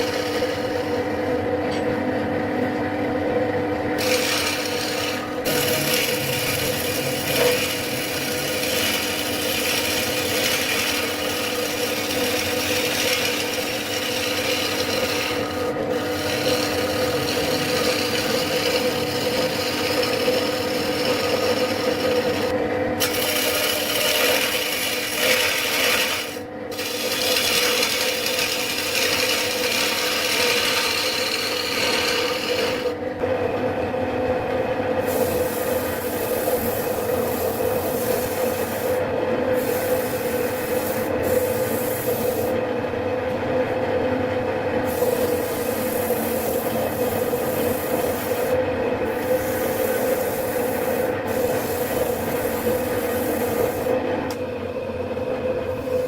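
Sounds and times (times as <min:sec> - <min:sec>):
wood rasping on lathe: 0:00.0 - 0:01.4, 0:04.0 - 0:33.0, 0:35.0 - 0:42.6, 0:44.8 - 0:54.0
low machine hum: 0:00.0 - 0:56.0.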